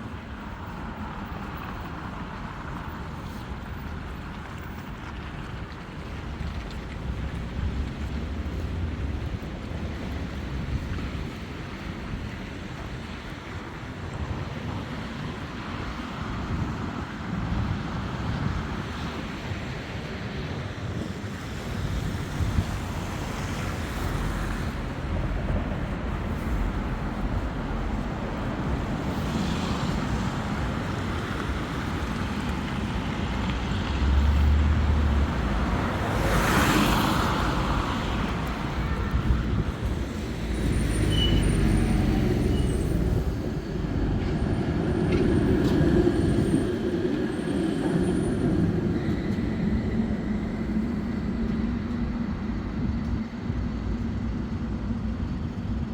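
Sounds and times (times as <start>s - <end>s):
road traffic noise: 0.0s - 55.9s.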